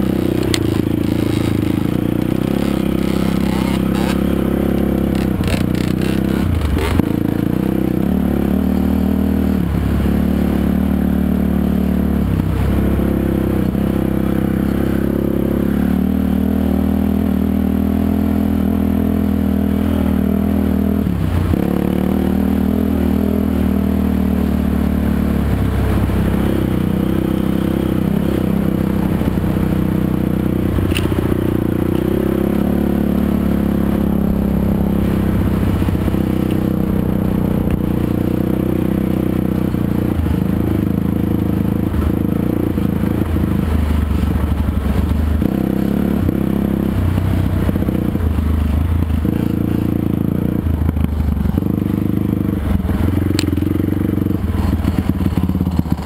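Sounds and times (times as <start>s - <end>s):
atv engine running: 0.0s - 56.0s
vehicle rattling over rough ground: 0.0s - 56.0s.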